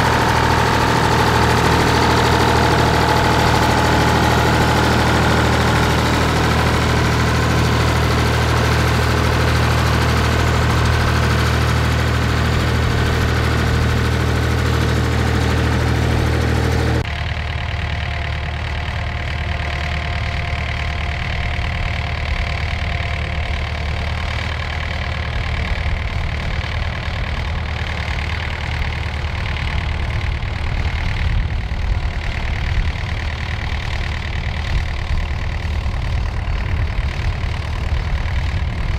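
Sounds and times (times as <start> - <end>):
tractor engine low uneven throb: 0.0 - 38.9
tractor engine running: 0.0 - 38.9.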